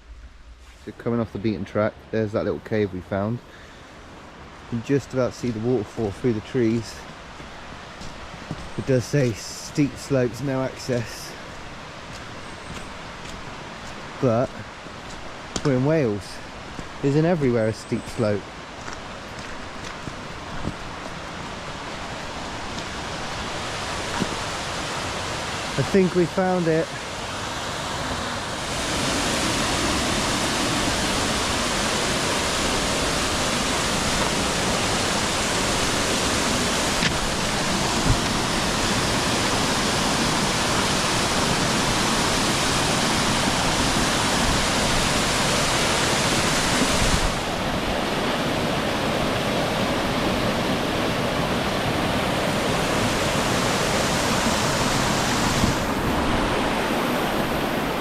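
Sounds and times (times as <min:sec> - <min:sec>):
waterfall rushing: 0:03.4 - 0:18.4, 0:19.1 - 0:58.0.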